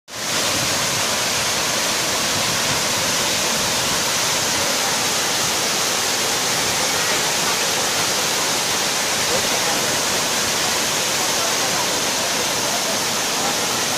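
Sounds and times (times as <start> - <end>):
waterfall pouring into pool: 0.1 - 13.9.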